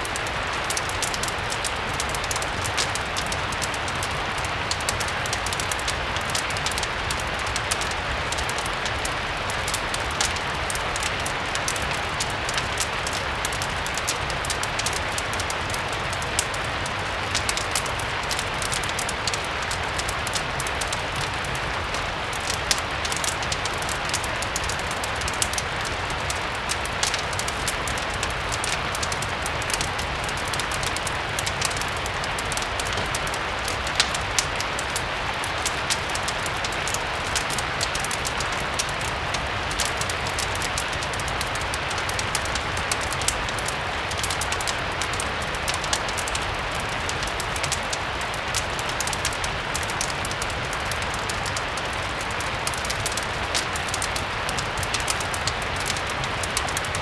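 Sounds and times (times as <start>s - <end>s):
fireplace crackling: 0.0s - 57.0s
steady rain: 0.0s - 57.0s.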